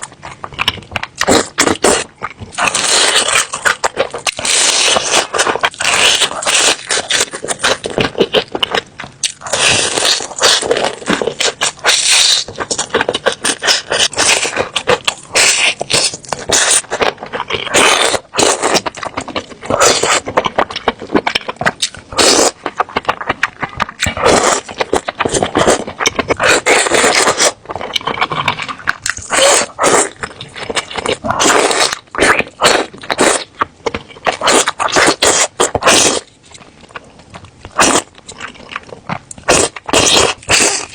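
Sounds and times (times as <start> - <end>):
chewing and wet mouth noises: 0.0 - 40.9.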